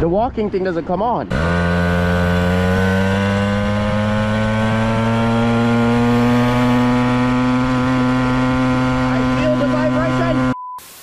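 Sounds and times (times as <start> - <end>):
pocket bike engine running: 1.3 - 10.5.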